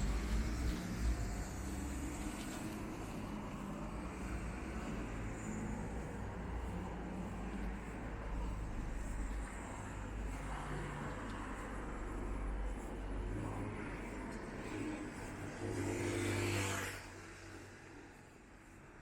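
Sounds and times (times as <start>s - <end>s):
road traffic rumble and hiss: 0.0s - 19.0s.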